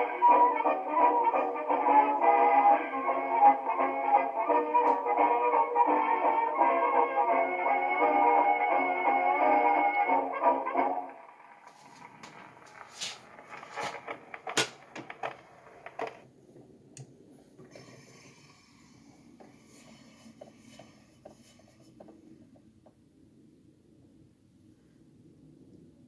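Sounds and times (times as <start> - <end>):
record surface hiss: 0.0 - 26.0.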